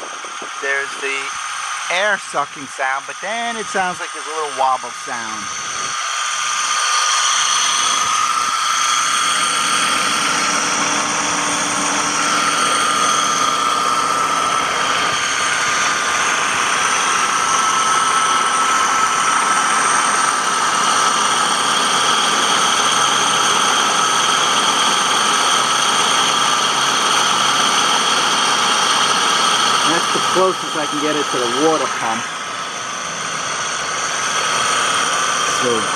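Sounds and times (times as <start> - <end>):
car engine running: 0.0 - 35.9
high whining tones: 0.0 - 35.9.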